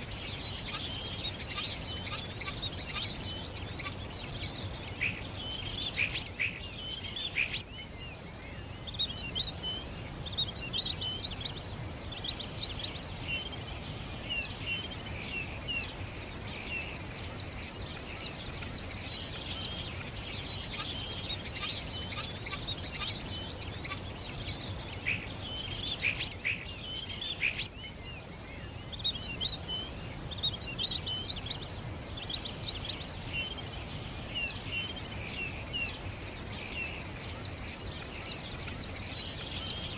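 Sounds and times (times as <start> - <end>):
low background noise: 0.0 - 39.9
songbirds chirping: 0.0 - 39.9.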